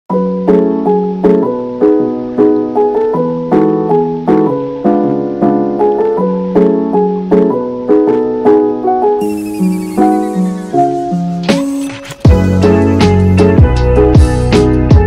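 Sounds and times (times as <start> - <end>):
keyboard playing repeating chords: 0.1 - 15.0.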